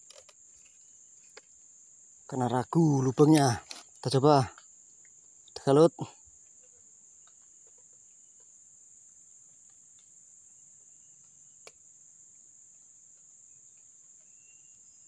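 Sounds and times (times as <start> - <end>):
high-pitched insect chirring: 0.0 - 15.0.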